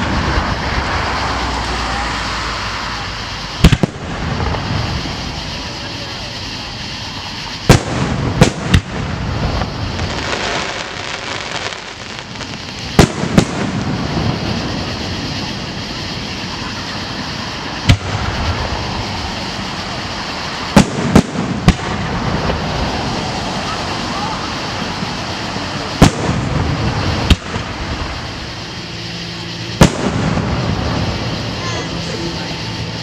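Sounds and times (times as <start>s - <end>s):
firework shells bursting: 0.0s - 33.0s
steady rumble: 0.0s - 33.0s.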